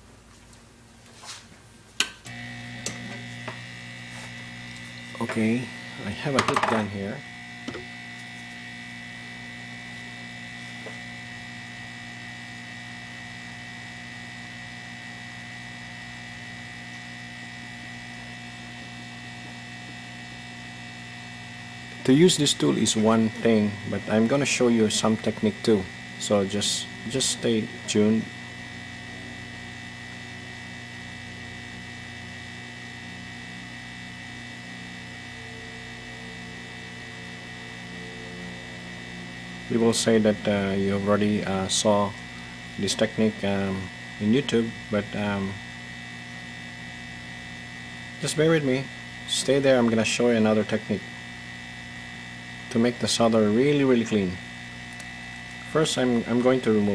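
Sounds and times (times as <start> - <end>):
heat gun fan humming: 0.0 - 56.9.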